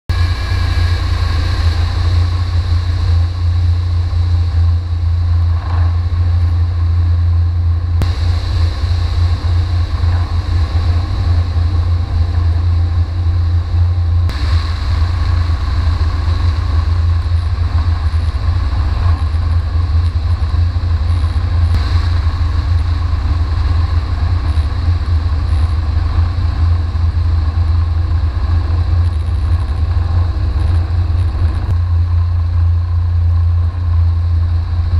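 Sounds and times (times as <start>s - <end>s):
wind rushing on microphone: 0.1s - 32.8s
aircraft engine and propeller drone: 0.1s - 34.9s.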